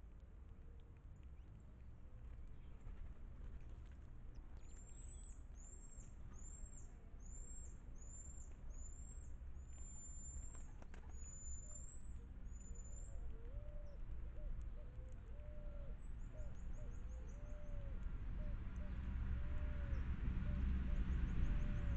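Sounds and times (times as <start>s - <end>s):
faint low rumble: 0.0s - 21.9s.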